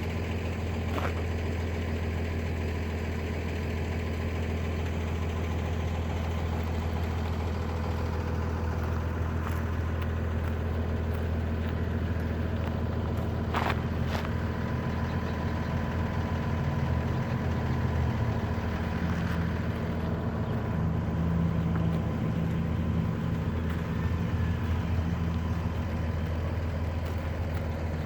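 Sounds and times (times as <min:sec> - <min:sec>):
car engine running: 0:00.0 - 0:28.0.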